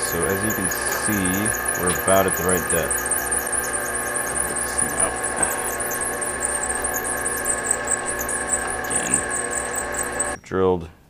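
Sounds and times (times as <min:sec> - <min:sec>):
metal lathe running: 0:00.0 - 0:10.4
high squeak: 0:00.0 - 0:10.5.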